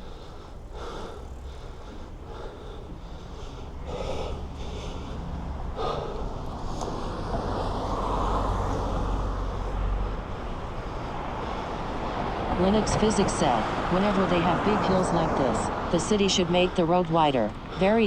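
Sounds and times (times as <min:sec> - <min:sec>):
cyclist breathing hard: 0:00.0 - 0:18.0
wind and road noise: 0:00.0 - 0:18.0.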